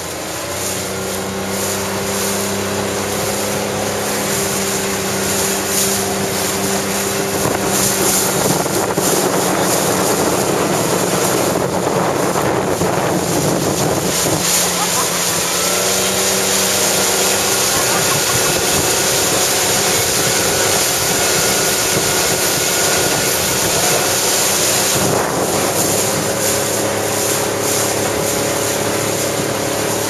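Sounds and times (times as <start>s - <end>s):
outboard motor humming: 0.0s - 30.0s
wind on microphone: 0.0s - 30.0s.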